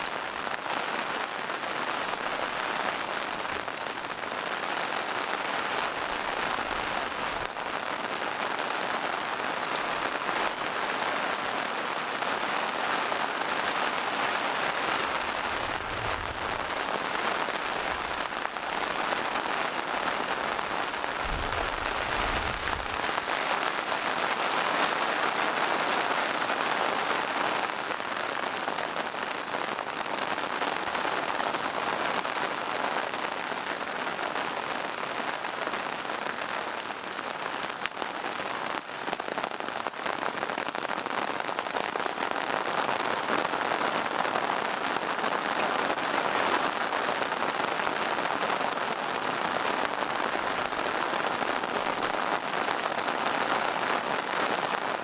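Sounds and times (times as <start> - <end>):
rain on leaves and rocks: 0.0 - 55.0.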